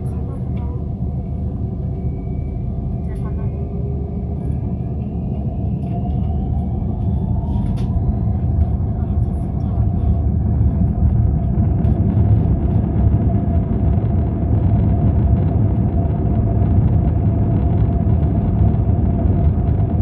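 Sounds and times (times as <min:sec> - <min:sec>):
jet engines roaring in cabin: 0:00.0 - 0:20.0.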